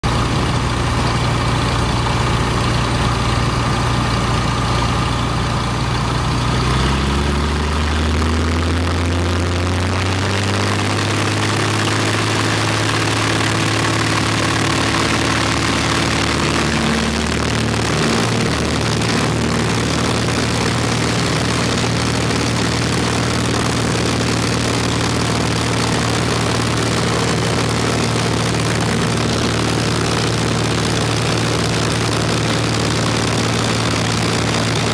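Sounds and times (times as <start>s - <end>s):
propeller aircraft engine running: 0.0s - 34.9s.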